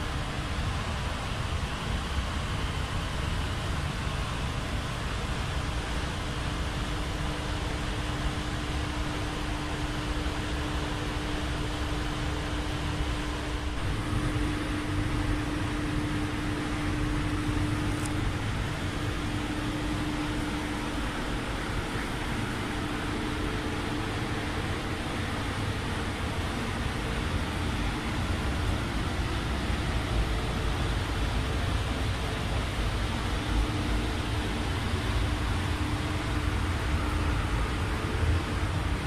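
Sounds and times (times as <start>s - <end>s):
faint steady hum: 0.0s - 39.0s
ventilation air rushing: 0.6s - 39.0s.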